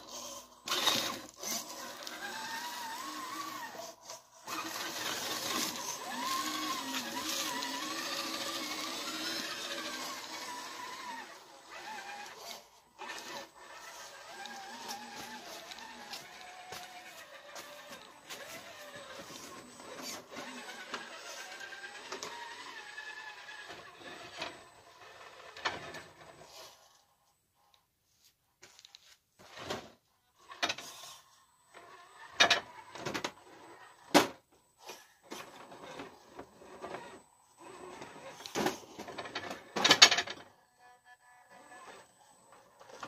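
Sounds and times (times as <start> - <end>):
toy truck motor whining: 0.0 - 27.8, 29.5 - 43.0.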